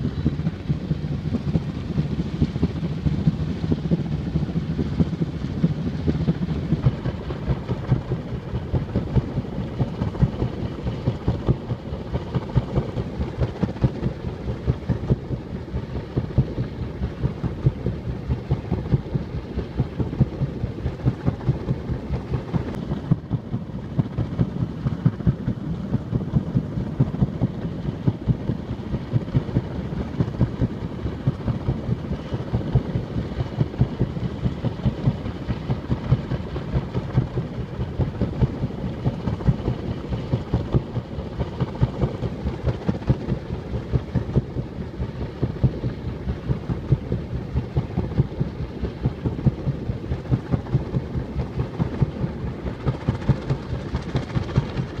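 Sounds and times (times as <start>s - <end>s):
low pulsing engine-like rumble: 0.0s - 55.0s.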